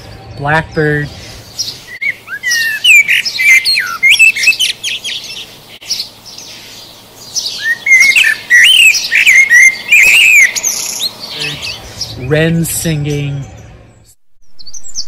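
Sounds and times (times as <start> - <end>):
blackbird singing: 0.0 - 15.0.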